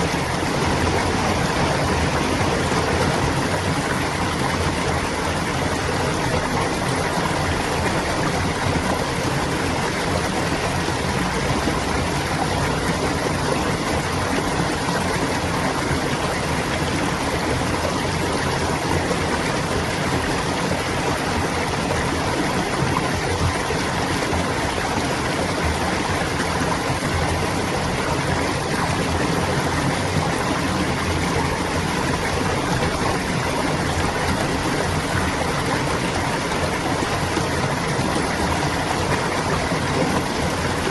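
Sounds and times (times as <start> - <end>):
stream water gurgling: 0.0 - 40.9.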